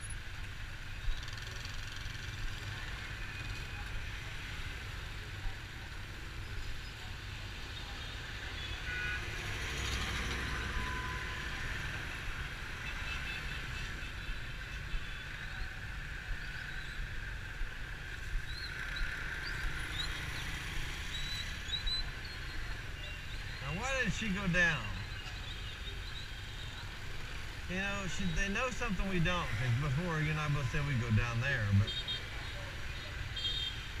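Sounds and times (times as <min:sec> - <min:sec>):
road and wind noise: 0:00.0 - 0:34.0.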